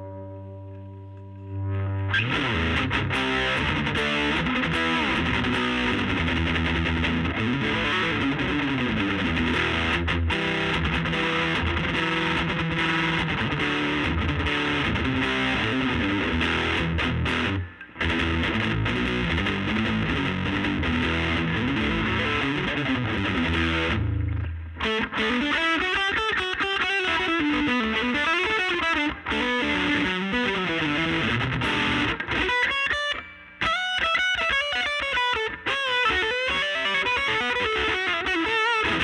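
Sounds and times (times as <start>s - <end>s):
overdriven electric guitar: 0.0s - 39.0s.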